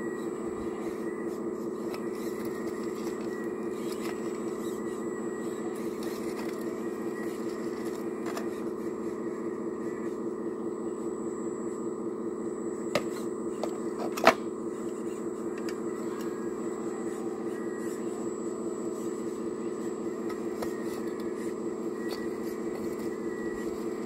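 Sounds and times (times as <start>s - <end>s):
electric pump humming: 0.0s - 24.0s.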